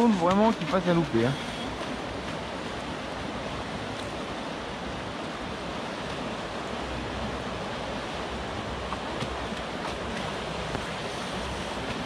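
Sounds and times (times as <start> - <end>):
river water rushing over weir: 0.0 - 12.0.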